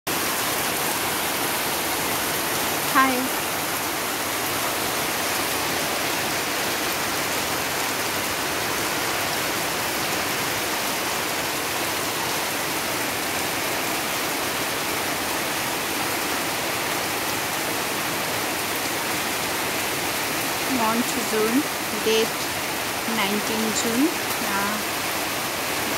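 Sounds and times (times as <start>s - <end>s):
heavy rain falling: 0.1s - 25.9s.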